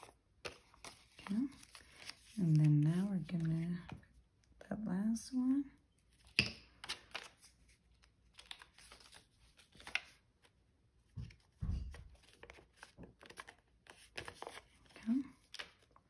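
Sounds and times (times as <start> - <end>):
paper rustling and crinkling: 0.0 - 4.1, 6.1 - 10.6, 11.3 - 16.0.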